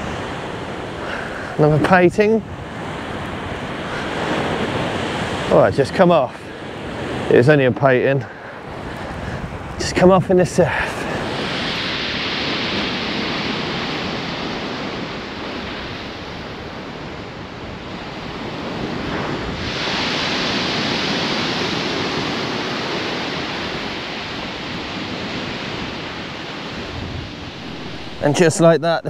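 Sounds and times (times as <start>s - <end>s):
surf breaking on shingle beach: 0.0s - 17.0s, 18.0s - 28.9s.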